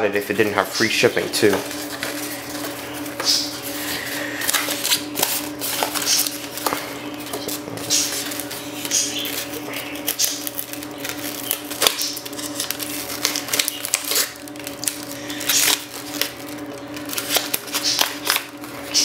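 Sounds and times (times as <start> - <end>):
steady low hum: 0.0 - 19.0
foam tray rustling and scraping: 0.4 - 19.0.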